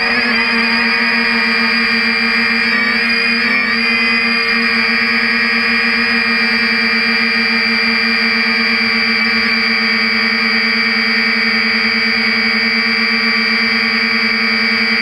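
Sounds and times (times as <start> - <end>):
drone motors buzzing: 0.0 - 15.0.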